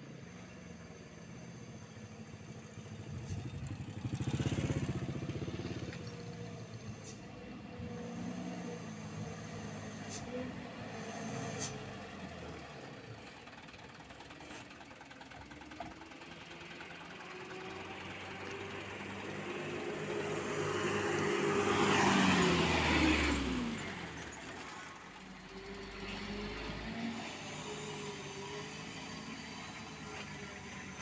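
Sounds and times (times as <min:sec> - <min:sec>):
diesel truck driving past: 0:00.0 - 0:31.0.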